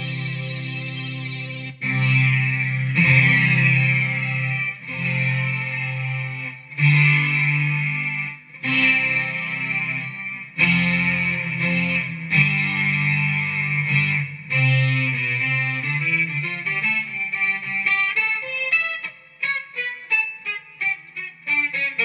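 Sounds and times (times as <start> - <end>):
sustained synth guitar chords: 0.0 - 22.0.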